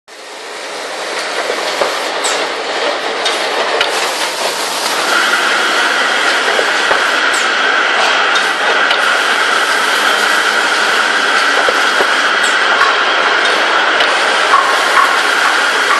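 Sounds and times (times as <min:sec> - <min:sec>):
high machine whine: 0:00.1 - 0:15.9.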